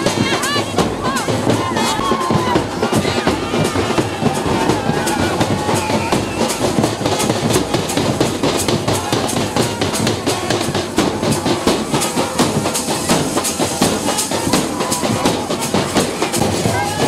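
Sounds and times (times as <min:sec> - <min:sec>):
fast clattering drums: 0:00.0 - 0:17.0.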